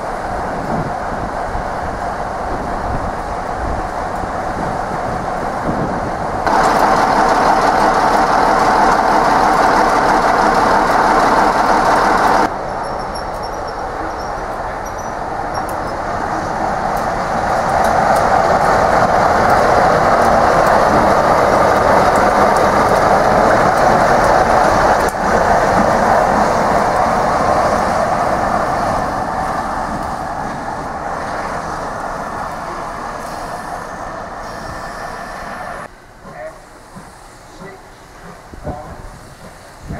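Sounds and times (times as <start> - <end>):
diesel locomotive passing: 0.0 - 39.9.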